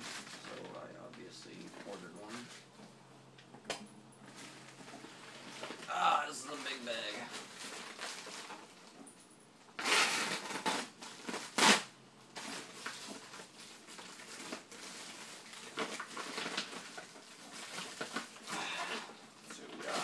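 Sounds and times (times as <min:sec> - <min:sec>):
loud plastic crunch: 0:00.0 - 0:02.8, 0:03.7 - 0:09.0, 0:09.8 - 0:20.0
plastic packaging rustling: 0:00.0 - 0:02.9, 0:04.2 - 0:09.1, 0:09.8 - 0:20.0.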